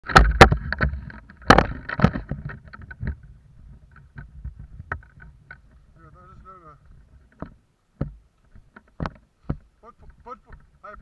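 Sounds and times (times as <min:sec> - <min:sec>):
sharp knocks and clacks: 0:00.0 - 0:05.8, 0:07.3 - 0:11.0
faint low clatter: 0:00.0 - 0:11.0.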